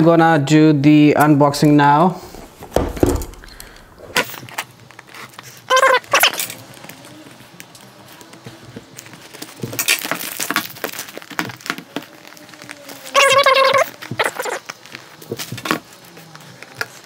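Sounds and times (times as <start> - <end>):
plastic wrap crinkling: 2.2 - 17.0.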